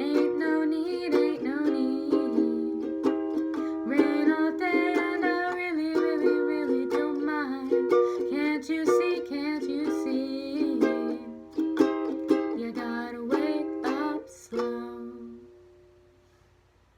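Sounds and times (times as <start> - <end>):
ukulele strumming chords: 0.0 - 16.1.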